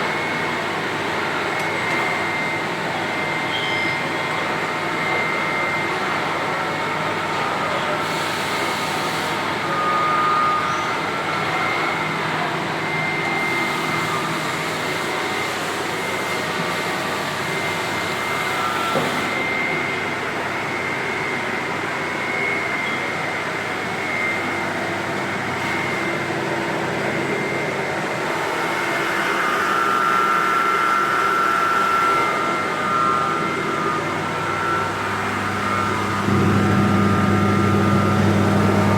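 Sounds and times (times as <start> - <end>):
machine hum with high whines: 0.0 - 38.9.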